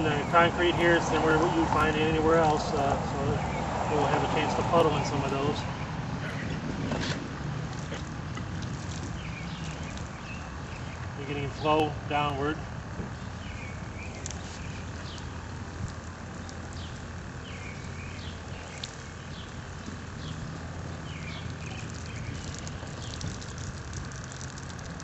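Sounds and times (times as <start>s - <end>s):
liquid trickling onto concrete: 0.0s - 5.7s, 7.4s - 11.2s, 13.4s - 25.0s
birds chirping: 0.0s - 24.5s
steady low rumble: 0.0s - 25.0s.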